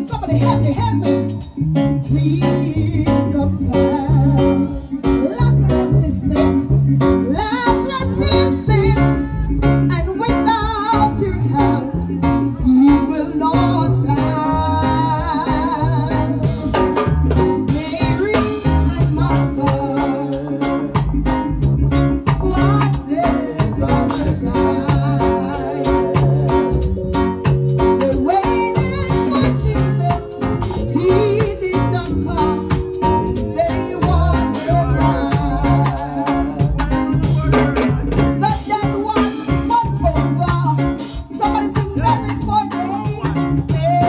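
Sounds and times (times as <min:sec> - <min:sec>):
song with guitar and beat: 0:00.0 - 0:44.0.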